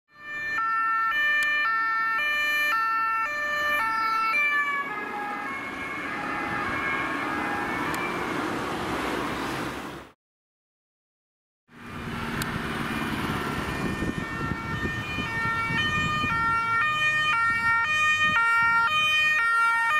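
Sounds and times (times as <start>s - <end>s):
ambulance siren: 0.1s - 8.9s, 11.8s - 19.9s
van engine and tyre noise: 0.2s - 10.2s, 11.7s - 19.9s.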